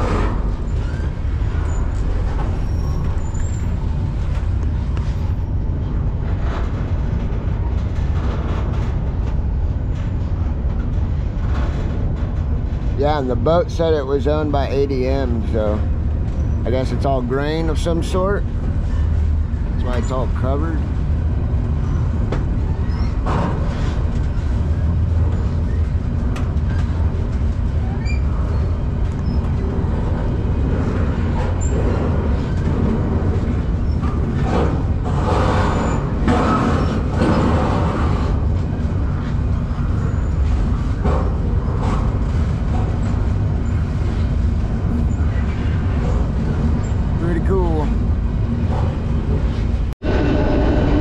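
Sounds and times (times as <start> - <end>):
freight train rumbling and clanking: 0.0 - 51.0.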